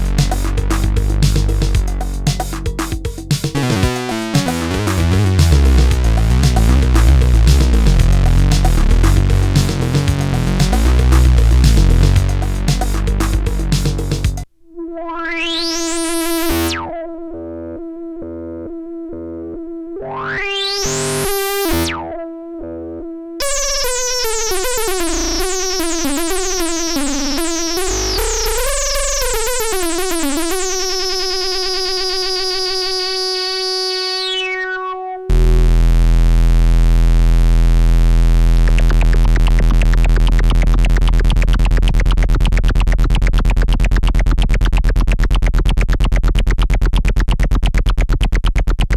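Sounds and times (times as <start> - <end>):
buzzy low synth drone: 0.0 - 43.7
synthesizer with sweeping filter: 0.0 - 44.0.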